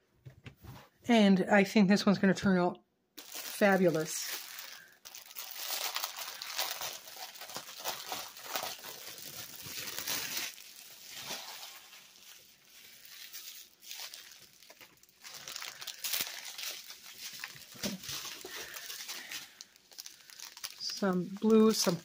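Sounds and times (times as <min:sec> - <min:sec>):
plastic crinkling and rustling: 0:03.2 - 0:22.0.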